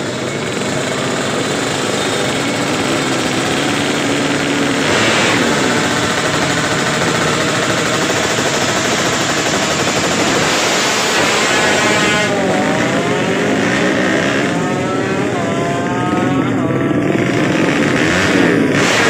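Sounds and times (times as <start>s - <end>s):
dense engine din: 0.0s - 19.0s
motorcycle engines revving: 0.0s - 19.0s.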